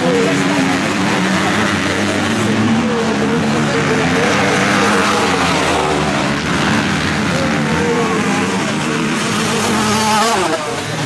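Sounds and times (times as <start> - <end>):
motocross bikes revving past: 0.0 - 11.0.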